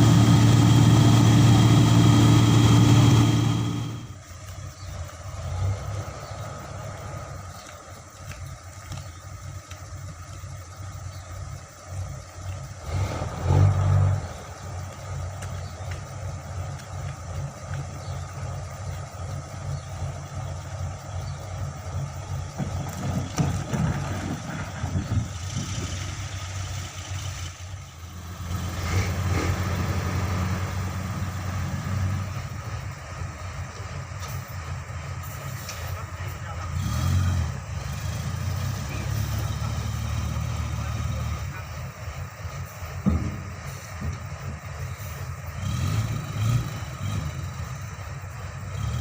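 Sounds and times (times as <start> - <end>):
diesel truck engine running: 0.0 - 49.0.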